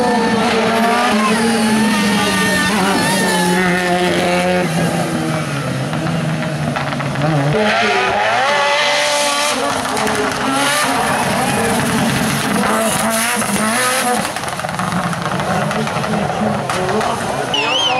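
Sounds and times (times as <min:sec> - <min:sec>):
race car engine at high revs: 0:00.0 - 0:17.9.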